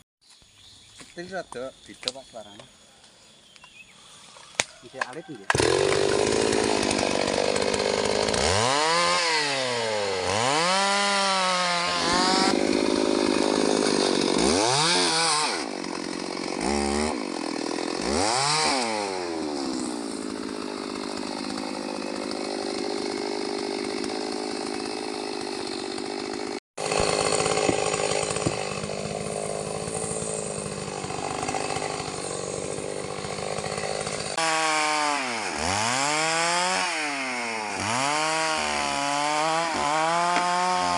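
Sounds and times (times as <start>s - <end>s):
chainsaw revving and cutting wood: 4.2s - 40.9s.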